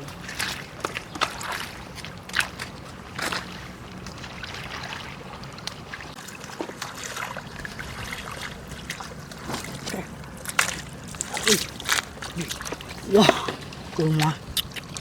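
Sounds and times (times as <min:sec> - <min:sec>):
small water splashes: 0:00.0 - 0:15.0
water trickling and sloshing: 0:00.0 - 0:15.0.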